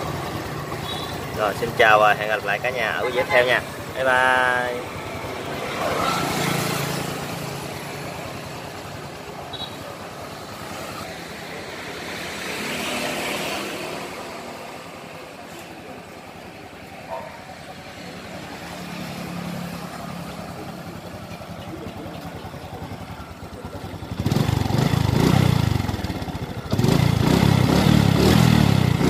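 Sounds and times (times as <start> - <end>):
motorbikes passing: 0.0 - 29.0
street traffic: 0.0 - 29.0.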